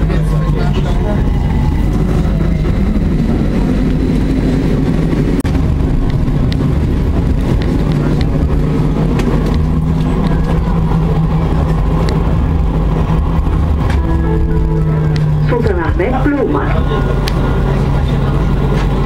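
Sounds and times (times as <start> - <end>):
low hum: 0.0 - 19.0
tram wheels rumbling: 0.0 - 19.0.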